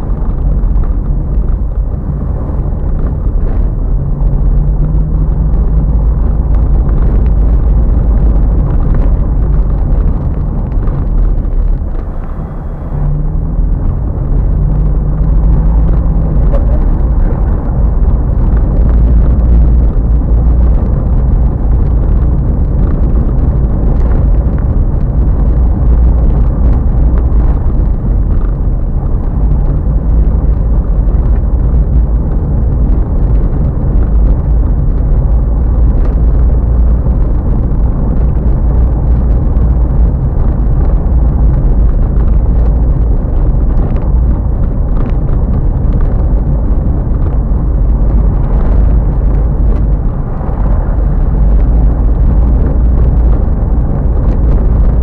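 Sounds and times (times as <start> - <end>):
tyres rumbling on cobblestones: 0.0 - 55.0.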